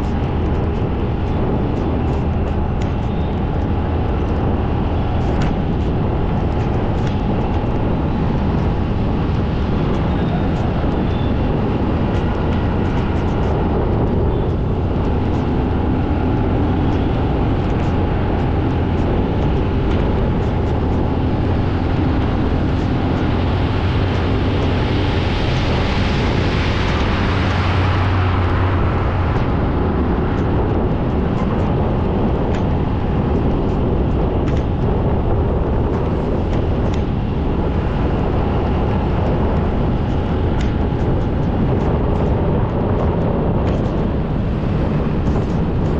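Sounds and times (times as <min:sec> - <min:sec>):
vehicle rumble on wet road: 0:00.0 - 0:45.9.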